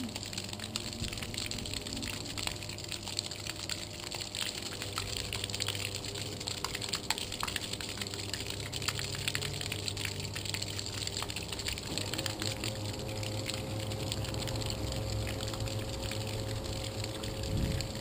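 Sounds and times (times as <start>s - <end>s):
bilge pump humming: 0.0s - 18.0s
water jet splashing: 0.0s - 18.0s.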